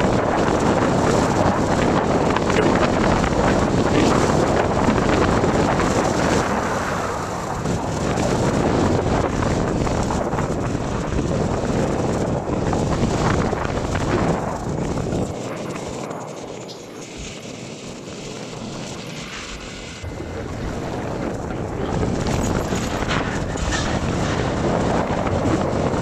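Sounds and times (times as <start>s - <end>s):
vehicle engine: 0.0s - 26.0s
wind over microphone: 0.0s - 26.0s.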